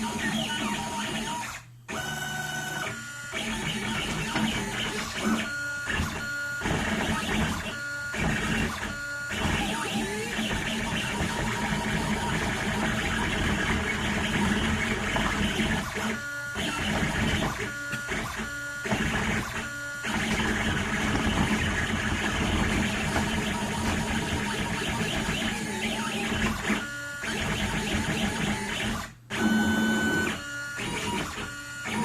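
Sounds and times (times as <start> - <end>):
stepper motors whirring: 0.0 - 32.0.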